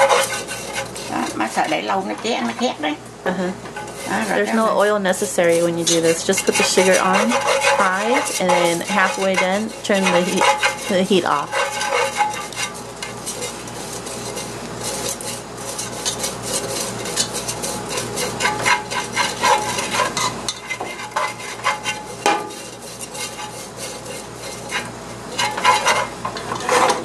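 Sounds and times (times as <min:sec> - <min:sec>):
chopsticks scraping a pot: 0:00.0 - 0:02.8, 0:03.7 - 0:27.0.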